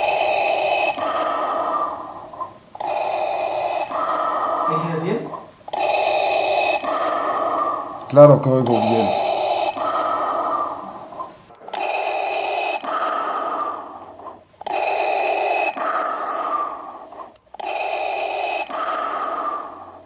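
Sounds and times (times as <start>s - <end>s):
mechanical respirator breathing: 0.0s - 20.0s.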